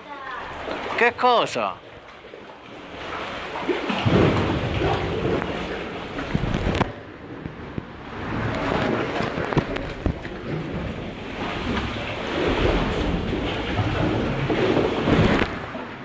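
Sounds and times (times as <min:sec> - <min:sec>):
sharp water splashes: 0:00.0 - 0:07.0, 0:07.9 - 0:16.0
sea swell sloshing against rock: 0:00.4 - 0:16.0.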